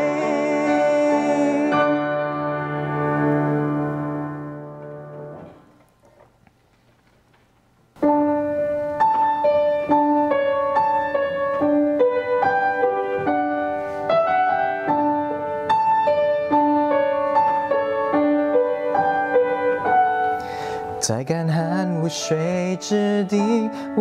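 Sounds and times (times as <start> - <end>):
gentle piano playing: 0.0 - 5.8, 8.0 - 24.0.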